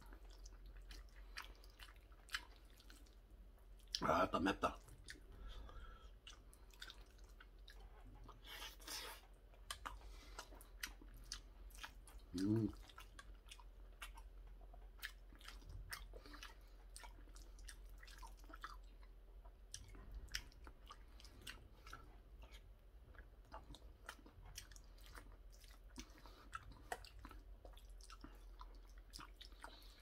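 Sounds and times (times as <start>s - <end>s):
person chewing: 0.0s - 30.0s.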